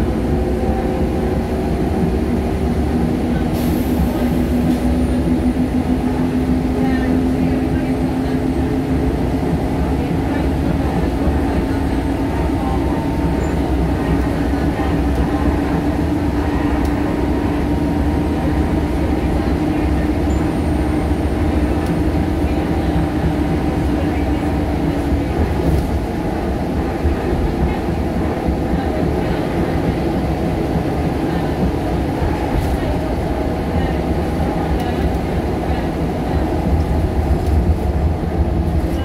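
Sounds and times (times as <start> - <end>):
diesel engine droning: 0.0 - 39.0
road rumble: 0.0 - 39.0.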